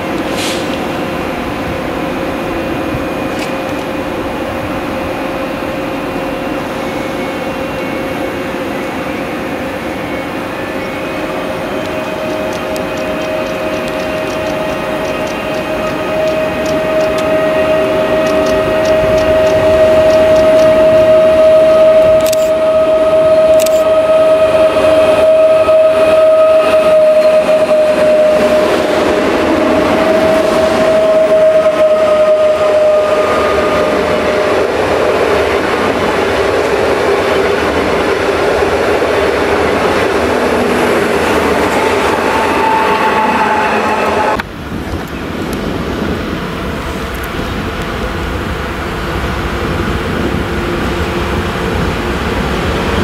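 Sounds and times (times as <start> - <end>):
train wheel and rolling noise: 0.0 - 53.0.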